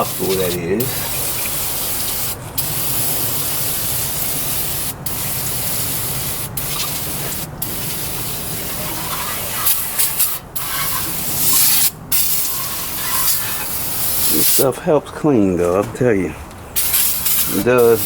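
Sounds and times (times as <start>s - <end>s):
pressure washer spraying: 0.0s - 14.6s, 16.8s - 18.0s.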